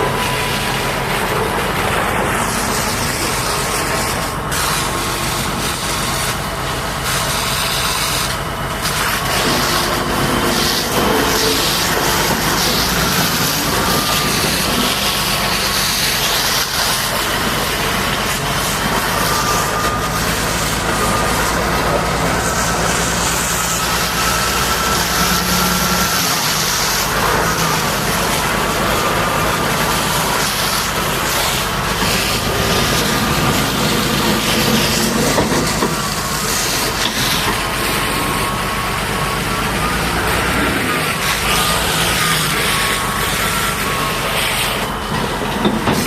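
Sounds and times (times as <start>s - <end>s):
heavy diesel engine running: 0.0s - 46.0s
hissing noise: 0.0s - 46.0s.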